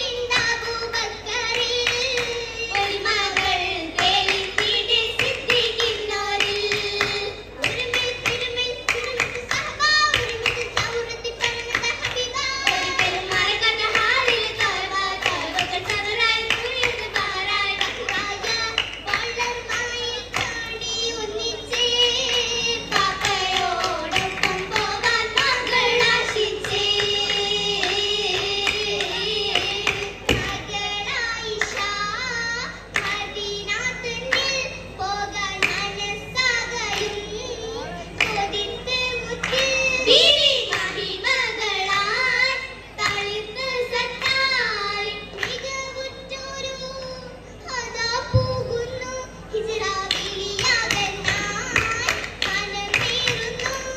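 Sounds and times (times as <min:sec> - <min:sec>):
group of girls singing: 0:00.0 - 0:53.9
rhythmic hand-clapping: 0:00.0 - 0:53.9.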